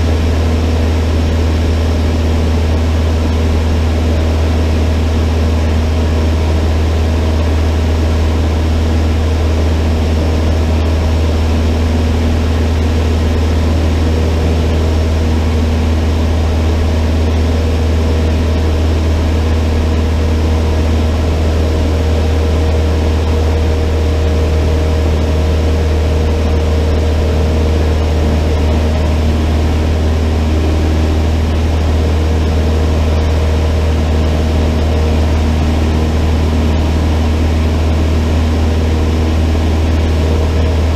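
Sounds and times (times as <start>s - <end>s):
airplane engine drone in flight: 0.0s - 40.9s.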